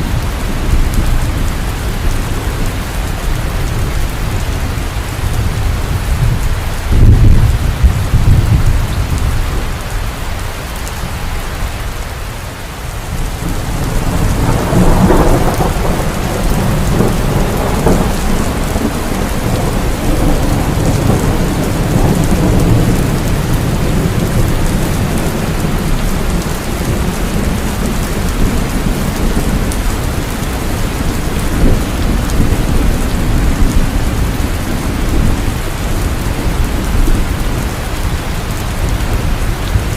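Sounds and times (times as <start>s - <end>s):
rolling thunder: 0.0s - 9.8s, 13.1s - 39.9s
heavy rain falling: 0.0s - 39.9s.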